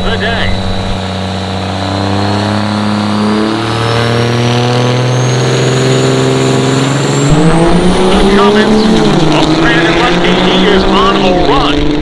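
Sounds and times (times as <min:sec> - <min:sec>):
deep diesel engine revving: 0:00.0 - 0:12.0
turbo whine rising: 0:00.0 - 0:12.0.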